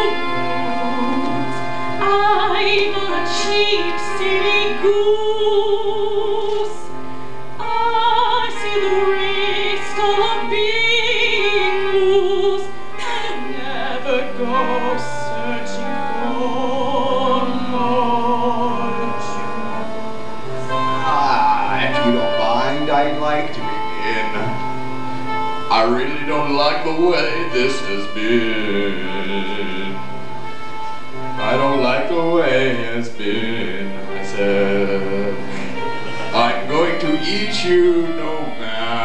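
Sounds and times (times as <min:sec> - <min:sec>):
opera-style singing: 0:00.0 - 0:07.0, 0:07.6 - 0:24.7, 0:25.7 - 0:30.6, 0:31.3 - 0:39.0
held chord accompaniment: 0:00.0 - 0:39.0.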